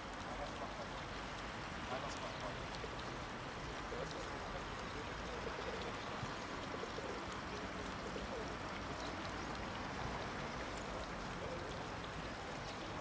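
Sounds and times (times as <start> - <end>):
city street background noise: 0.0 - 13.0
faint distant voices: 0.2 - 13.0.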